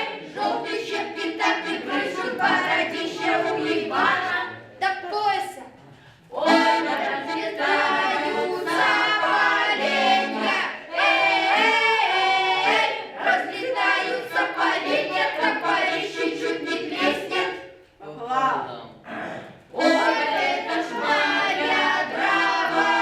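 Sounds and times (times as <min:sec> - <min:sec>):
children singing together: 0:00.0 - 0:04.8, 0:06.3 - 0:17.8, 0:19.2 - 0:23.0.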